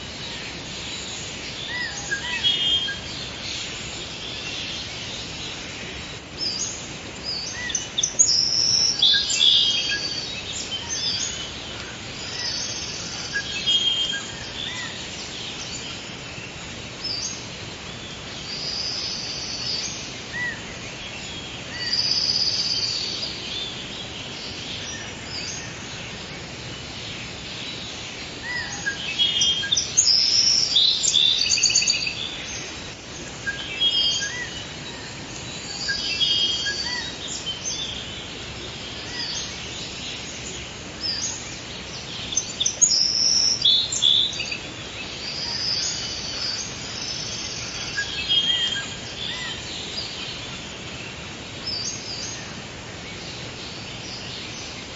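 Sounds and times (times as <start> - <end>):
songbirds chirping and singing: 0.0 - 54.9
steady background hiss: 0.0 - 54.9.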